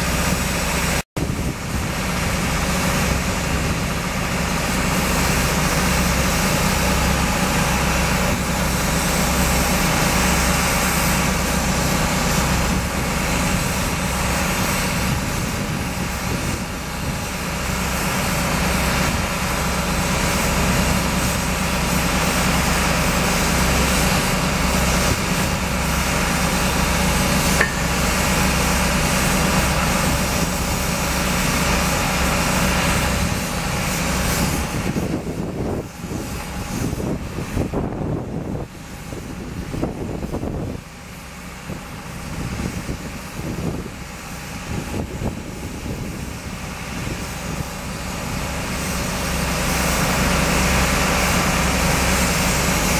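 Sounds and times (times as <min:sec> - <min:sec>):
heavy machinery drone: 0:00.0 - 0:52.9.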